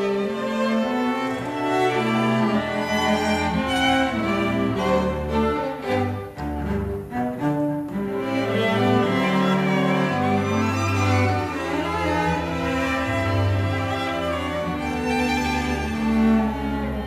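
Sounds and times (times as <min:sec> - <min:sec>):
bowed string ensemble: 0:00.0 - 0:17.0.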